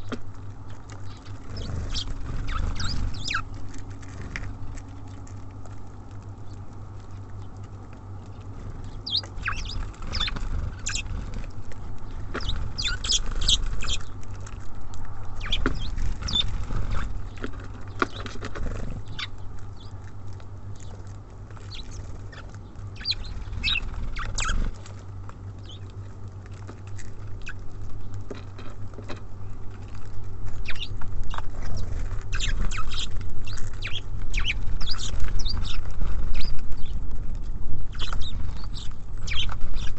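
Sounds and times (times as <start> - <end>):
birds pecking on feeder: 0.0 - 39.9
steady low rumble: 0.0 - 39.9.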